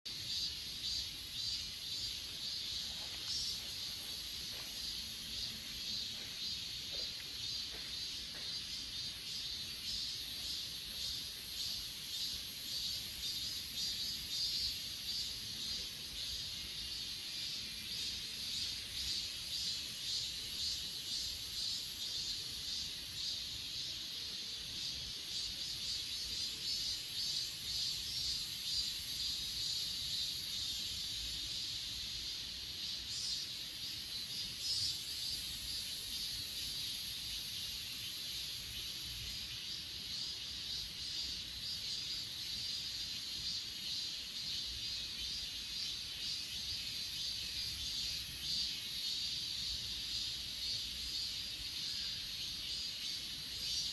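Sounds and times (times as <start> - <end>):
crickets trilling: 0.1 - 53.9.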